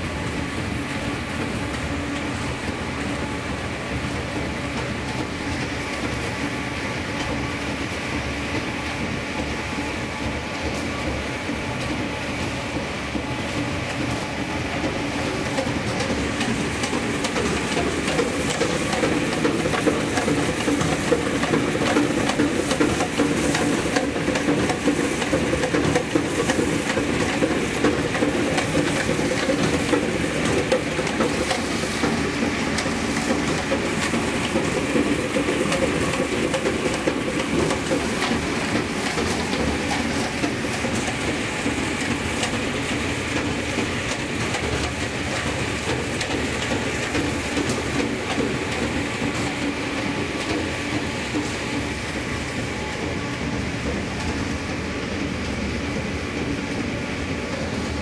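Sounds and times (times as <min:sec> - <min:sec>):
machine hum: 0:10.9 - 0:58.0.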